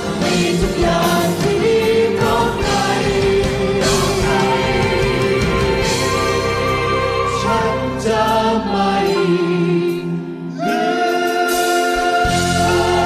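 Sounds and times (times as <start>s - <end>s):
bass: 0.0s - 13.0s
choir singing long held notes: 0.0s - 13.0s.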